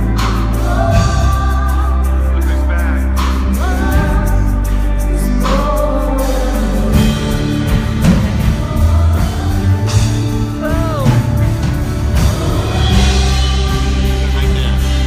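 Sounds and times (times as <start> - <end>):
band backing music: 0.0 - 15.0
person singing: 0.0 - 15.0.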